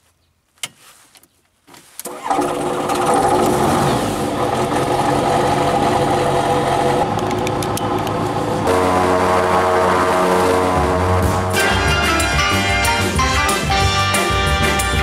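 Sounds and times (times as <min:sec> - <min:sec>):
aircraft engine starting and running: 0:02.0 - 0:15.0.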